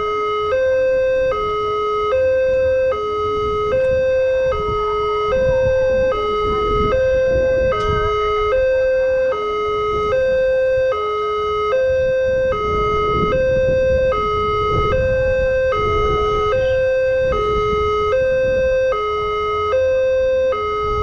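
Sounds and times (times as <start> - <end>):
two-tone level crossing siren: 0.0 - 21.0.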